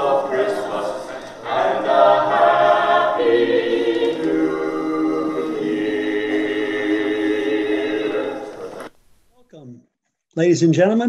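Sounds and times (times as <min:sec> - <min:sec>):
choir singing held chords: 0:00.0 - 0:08.9.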